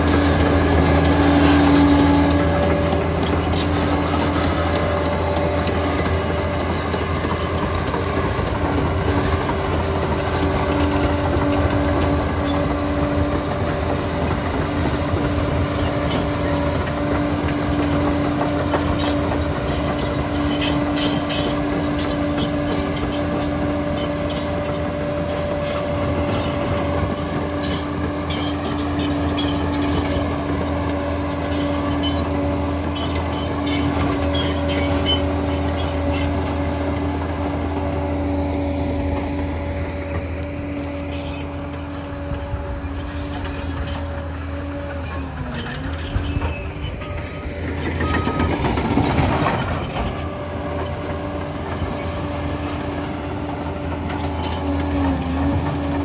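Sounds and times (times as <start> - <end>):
diesel engine under load: 0.0 - 56.0
steel tracks clicking and clanking: 0.0 - 56.0.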